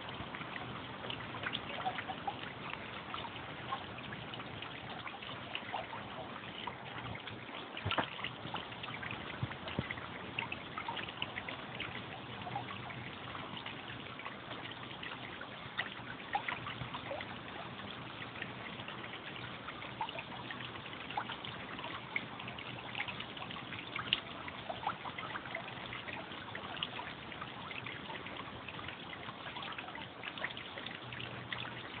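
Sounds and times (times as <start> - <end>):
small splashes: 0.0 - 32.0
water trickling into pond: 0.0 - 32.0.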